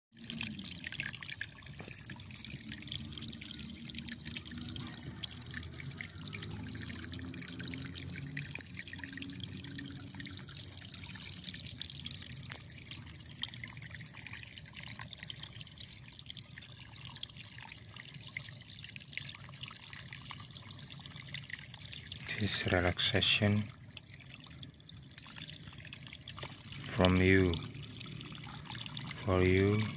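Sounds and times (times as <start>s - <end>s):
shallow water trickling: 0.1s - 29.9s.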